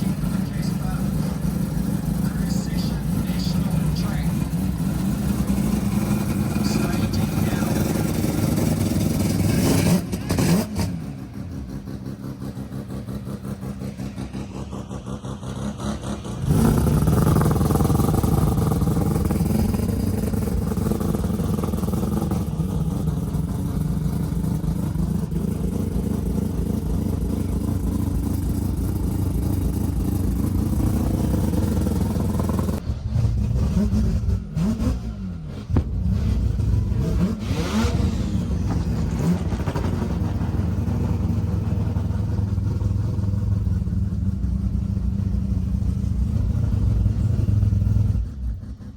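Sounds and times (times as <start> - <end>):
car engine running and revving: 0.0 - 48.9.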